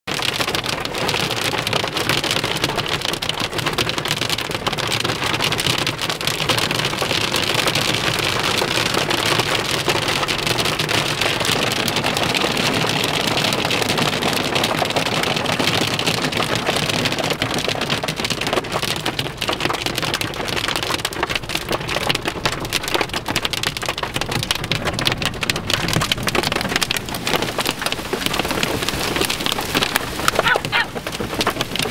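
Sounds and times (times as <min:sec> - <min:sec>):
hail and rain on a car roof: 0:00.1 - 0:31.9.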